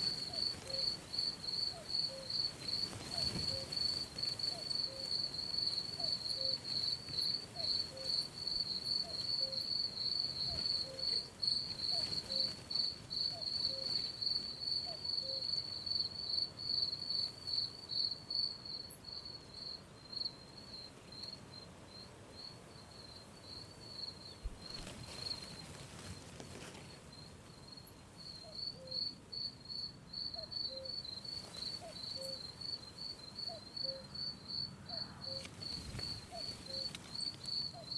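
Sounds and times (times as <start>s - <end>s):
crickets chirping in a trill: 0.0s - 37.9s.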